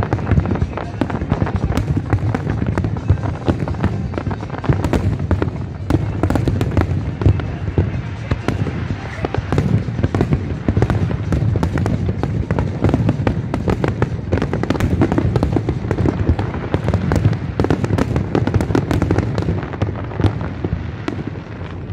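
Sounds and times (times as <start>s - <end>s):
fireworks bursting and crackling: 0.0s - 21.9s.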